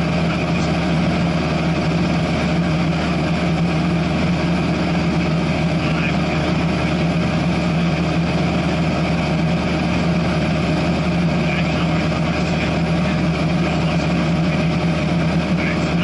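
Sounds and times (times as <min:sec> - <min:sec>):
airplane engine and propeller droning: 0:00.0 - 0:16.0.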